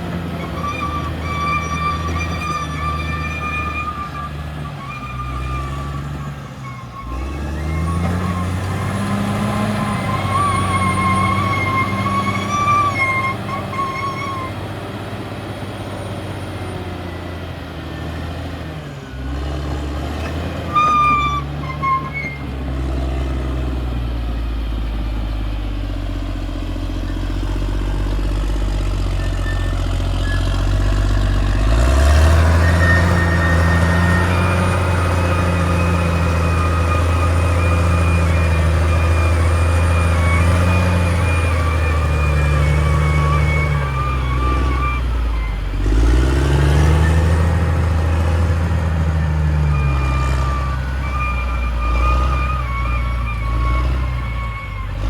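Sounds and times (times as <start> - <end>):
high squeals: 0.0 - 17.3, 20.5 - 22.6, 28.8 - 55.0
bulldozer diesel engine running: 0.0 - 55.0.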